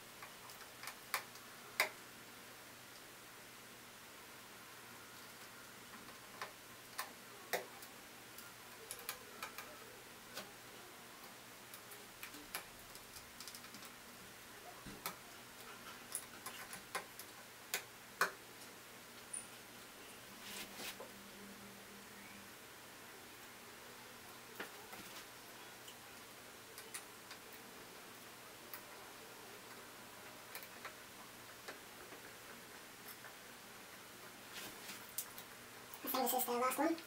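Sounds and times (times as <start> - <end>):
wires rustling: 0.0 - 21.4, 22.4 - 37.0.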